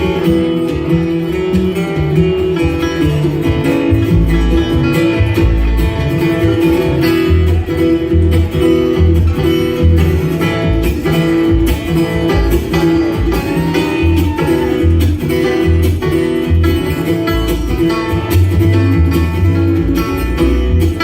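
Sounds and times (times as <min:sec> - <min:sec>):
acoustic guitar: 0:00.0 - 0:21.0
bluegrass band playing: 0:00.0 - 0:21.0
low bass notes: 0:00.0 - 0:21.0.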